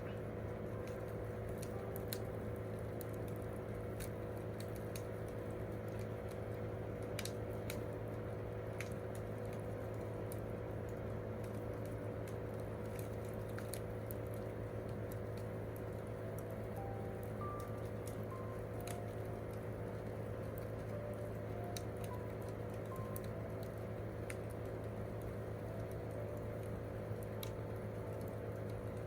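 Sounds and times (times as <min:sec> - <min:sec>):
campfire crackling: 0:00.0 - 0:29.0
sharp pops and snaps: 0:00.0 - 0:29.0
steady low hum: 0:00.0 - 0:29.0.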